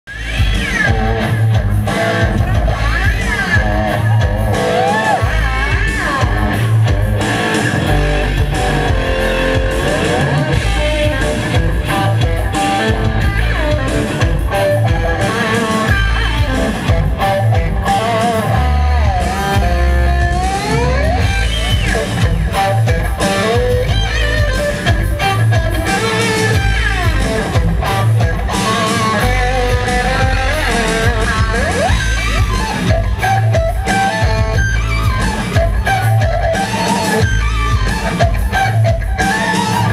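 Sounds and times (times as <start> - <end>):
band backing with heavy bass: 0.0 - 39.9
electric guitar bending notes: 0.1 - 39.9.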